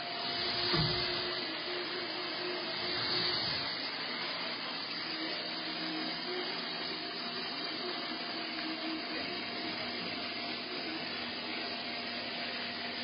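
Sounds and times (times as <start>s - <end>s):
machine whirring hum: 0.0s - 13.0s.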